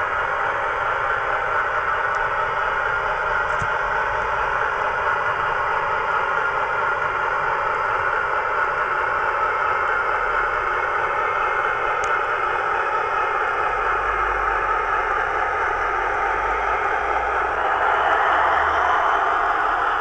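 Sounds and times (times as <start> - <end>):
recorded diesel engine drone: 0.0 - 20.0.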